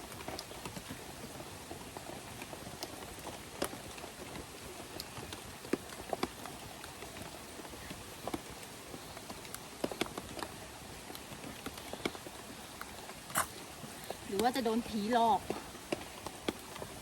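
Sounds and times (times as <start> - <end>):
sharp drips and ticks: 0.0 - 17.0
steady rain falling: 0.0 - 17.0.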